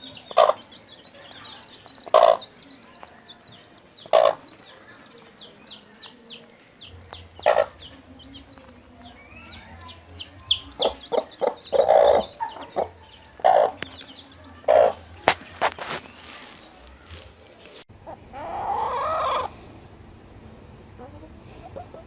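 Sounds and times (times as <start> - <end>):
chickens clucking: 0.0 - 19.6, 20.9 - 22.0
chicks peeping: 0.0 - 19.6, 20.9 - 22.0.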